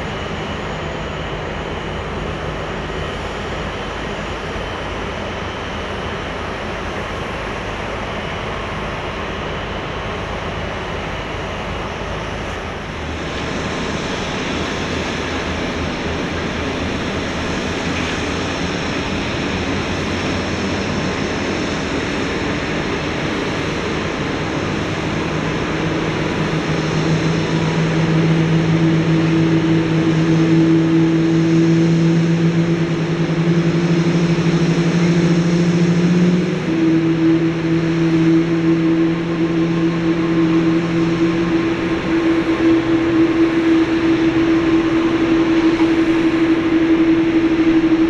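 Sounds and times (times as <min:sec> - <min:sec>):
low steady hum: 0:00.0 - 0:48.0
rushing aircraft and machinery noise: 0:00.0 - 0:48.0.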